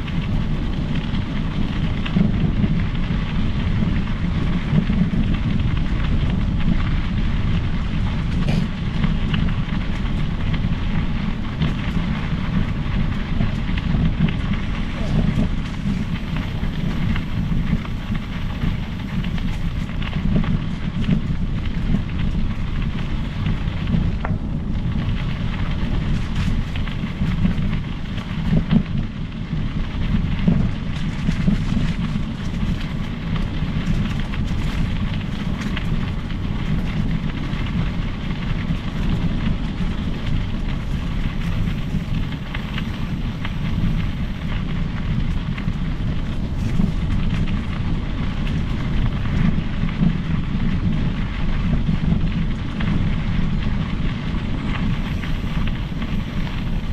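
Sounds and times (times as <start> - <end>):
bike tyre rumble on trail: 0.0 - 56.9
wind buffeting microphone: 0.0 - 56.9
small clicks and rattles: 0.1 - 51.0.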